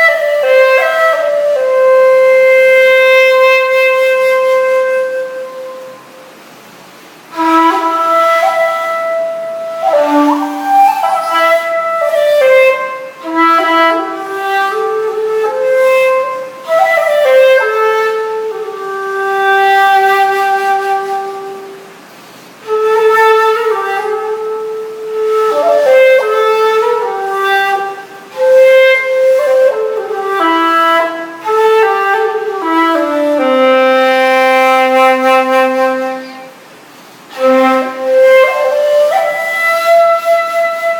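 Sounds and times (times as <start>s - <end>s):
bamboo flute melody: 0.0s - 40.9s.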